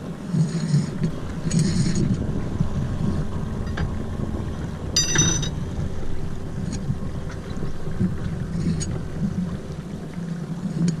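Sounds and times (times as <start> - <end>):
water washing along hull: 0.0 - 11.0
wind buffeting microphone: 0.9 - 10.2.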